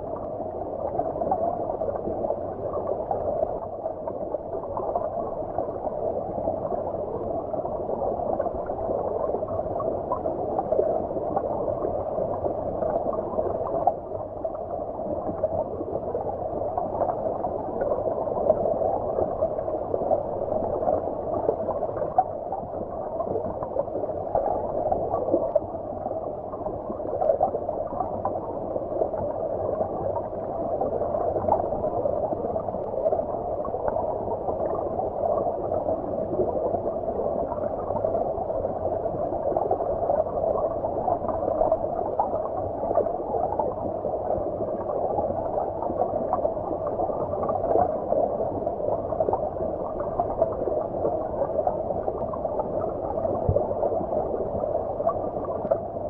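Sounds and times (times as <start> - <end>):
muffled stream water bubbling: 0.0 - 56.0.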